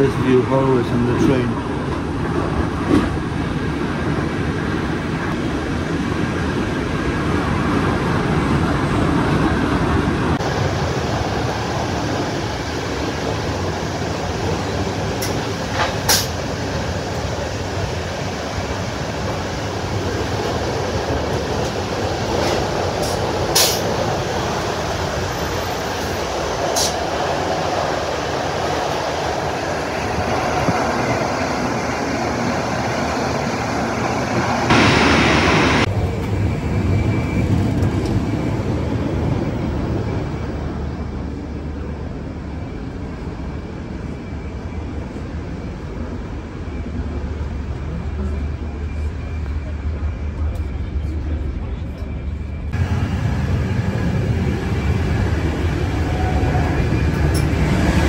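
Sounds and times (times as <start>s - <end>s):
train running noise inside carriage: 0.0s - 58.0s.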